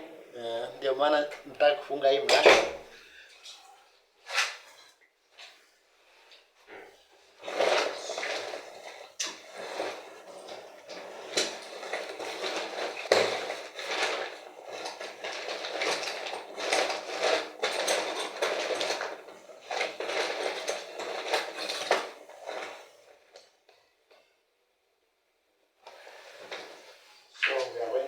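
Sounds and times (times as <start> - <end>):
rustling of objects: 0.5 - 24.3, 25.9 - 28.0.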